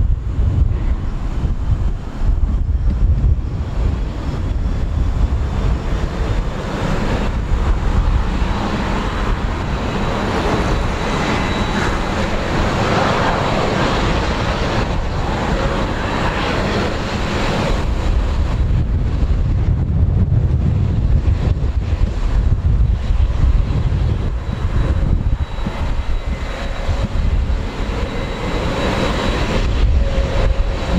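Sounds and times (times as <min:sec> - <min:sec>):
jet engines roaring: 0:00.0 - 0:30.9
wind rumbling on microphone: 0:00.0 - 0:30.9.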